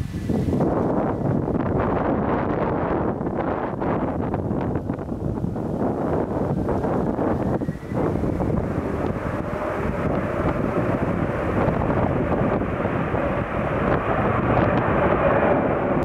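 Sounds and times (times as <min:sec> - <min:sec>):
jet airliner engines rushing: 0:00.0 - 0:16.0
wind buffeting microphone: 0:00.0 - 0:16.0.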